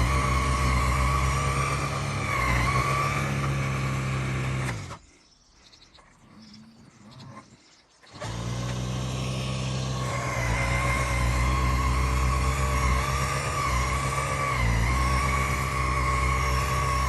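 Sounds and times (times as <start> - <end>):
snowblower motor whine and hum: 0.0 - 5.0, 8.1 - 17.0.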